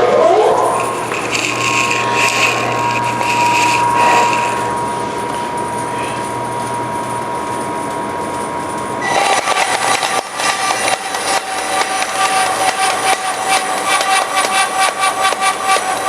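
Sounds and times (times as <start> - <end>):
bandsaw cutting plastic sheet: 0.2 - 6.2, 9.0 - 16.0.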